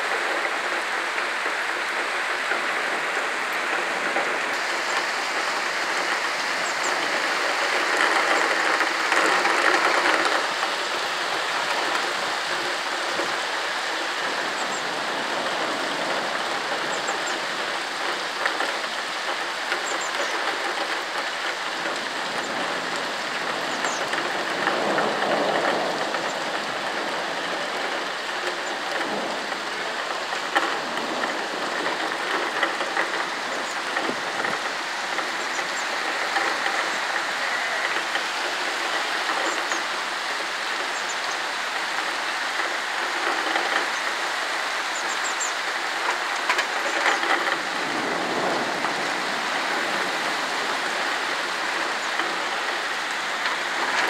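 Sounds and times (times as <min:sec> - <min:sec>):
sharp drips and taps: 0:00.0 - 0:47.8
heavy rain pouring: 0:00.0 - 0:54.0.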